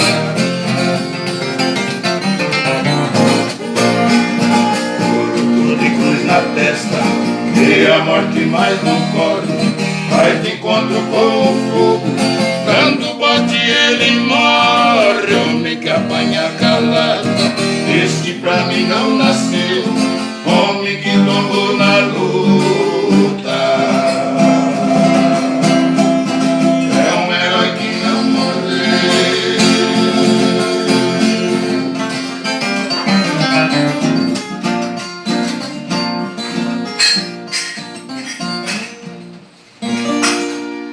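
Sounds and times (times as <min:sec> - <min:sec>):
acoustic guitar: 0:00.0 - 0:40.9.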